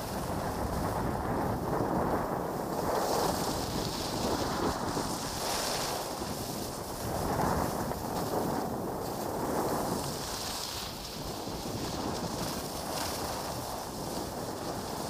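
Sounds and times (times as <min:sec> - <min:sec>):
skis scraping across snow: 0:00.0 - 0:15.0
wind buffeting microphone: 0:00.0 - 0:15.0.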